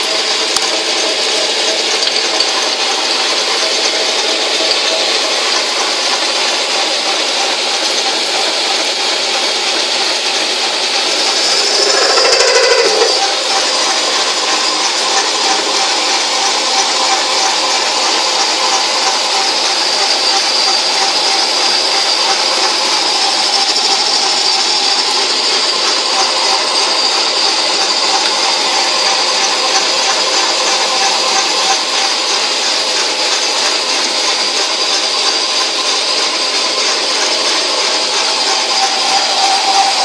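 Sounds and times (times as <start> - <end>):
metal lathe whining: 0.0 - 40.0.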